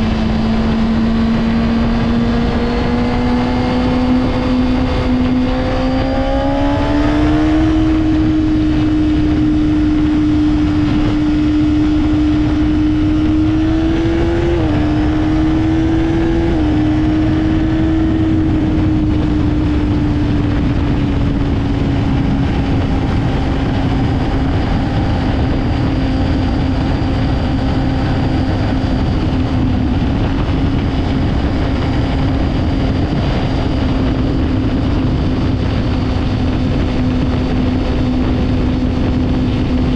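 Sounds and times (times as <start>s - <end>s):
motorcycle engine running high: 0.0s - 39.9s
steady rushing noise: 0.0s - 39.9s.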